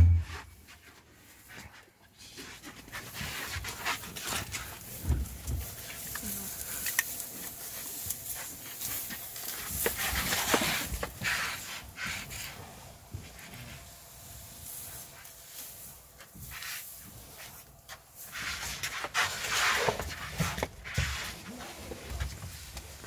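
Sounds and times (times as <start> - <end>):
elephants rustling: 0.0 - 23.0
elephants puffing: 2.2 - 22.4.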